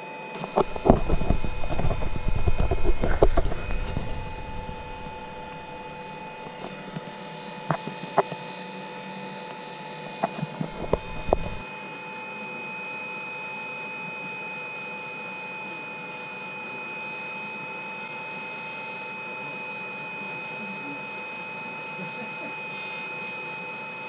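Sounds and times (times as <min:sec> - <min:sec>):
hot-air blower humming and whining: 0:00.0 - 0:24.0.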